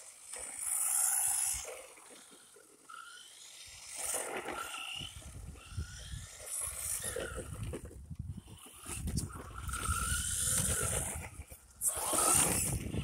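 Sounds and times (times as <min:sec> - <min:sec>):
electric motor whines: 0:00.0 - 0:13.0
toy truck rolling rumble: 0:00.0 - 0:13.0.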